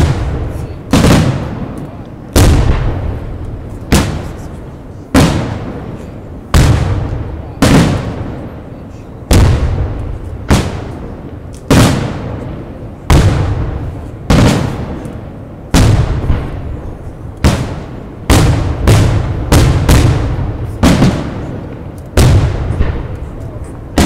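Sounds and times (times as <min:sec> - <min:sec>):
firework booms with echo: 0:00.0 - 0:15.1, 0:15.7 - 0:24.0.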